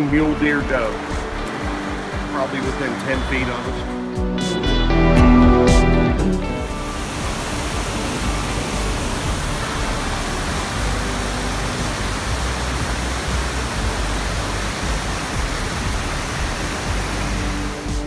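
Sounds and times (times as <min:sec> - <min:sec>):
waterfall roar: 0:00.0 - 0:04.1, 0:06.6 - 0:18.0.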